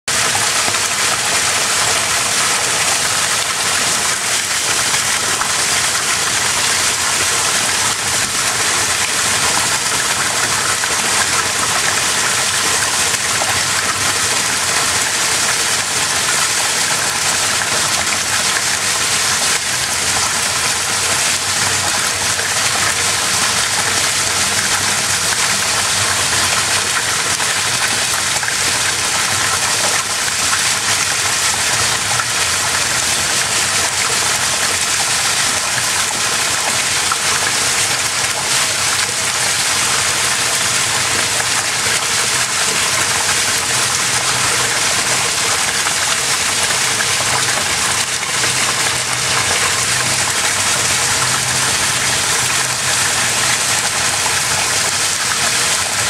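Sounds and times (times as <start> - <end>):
waterfall splashing onto concrete: 0.1 - 56.0.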